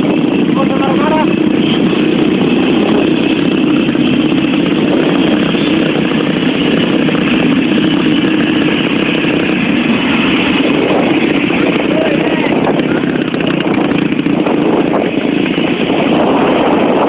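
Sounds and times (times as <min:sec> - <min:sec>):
motorcycle engine droning: 0:00.0 - 0:17.0
road rush: 0:00.0 - 0:17.0.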